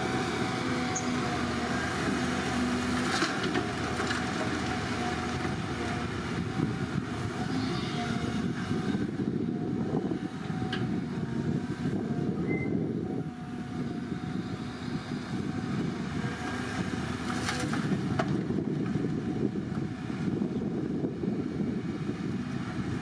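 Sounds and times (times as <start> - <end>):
excavator diesel engine rumbling: 0.0 - 23.0.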